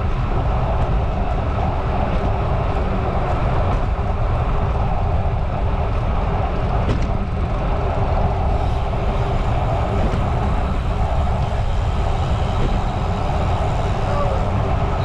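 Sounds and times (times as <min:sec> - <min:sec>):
bicycle tyre and road noise: 0:00.0 - 0:15.0
wind rumble on microphone: 0:00.0 - 0:15.0.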